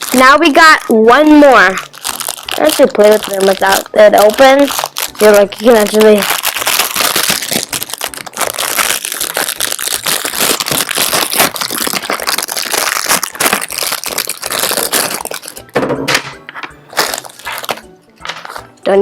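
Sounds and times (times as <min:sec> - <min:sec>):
plastic packaging crinkling: 0:00.0 - 0:15.8, 0:16.6 - 0:18.8.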